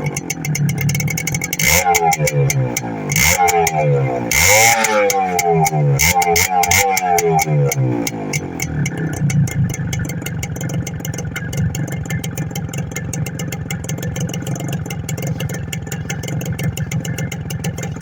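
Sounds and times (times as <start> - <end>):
two-stroke motorcycle engine running: 0.0 - 18.0.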